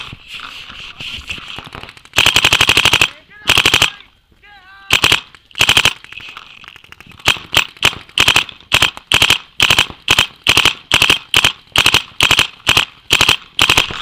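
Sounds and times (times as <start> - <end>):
paintball marker firing bursts: 1.3 - 4.0, 4.9 - 14.0.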